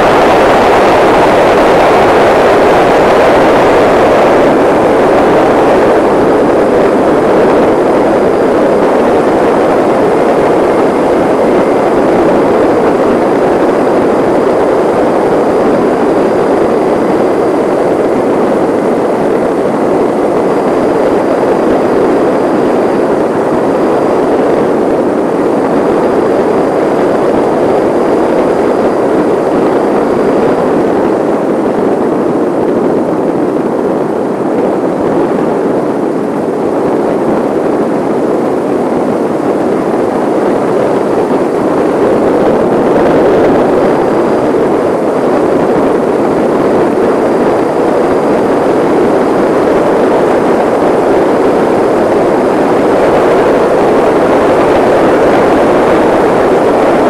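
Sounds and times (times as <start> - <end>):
wind and road rushing: 0.0 - 57.0.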